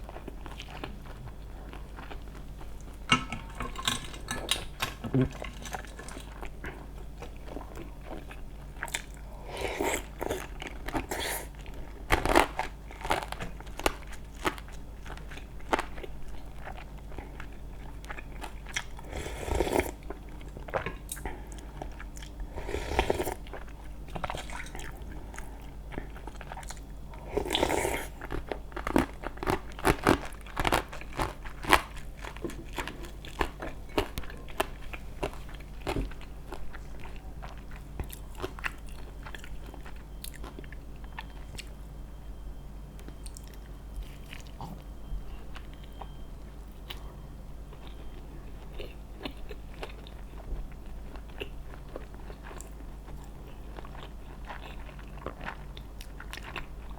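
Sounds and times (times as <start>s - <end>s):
chewing: 0.0s - 41.9s, 42.9s - 56.9s.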